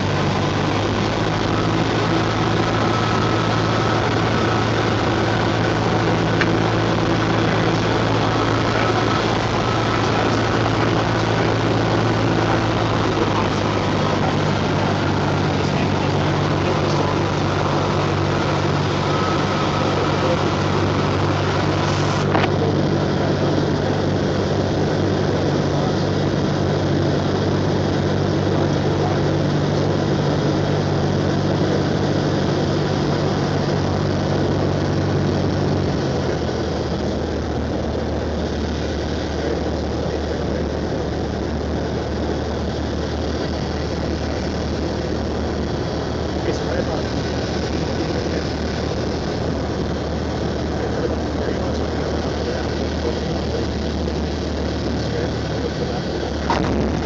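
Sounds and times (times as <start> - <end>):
propeller aircraft engine droning: 0.0 - 57.0
wind noise: 0.0 - 57.0.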